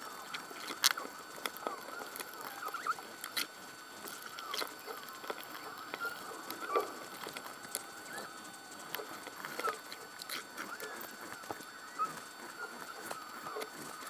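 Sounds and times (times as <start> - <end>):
faint high whine: 0.0 - 14.0
plastic squeaking on plastic: 0.0 - 14.0.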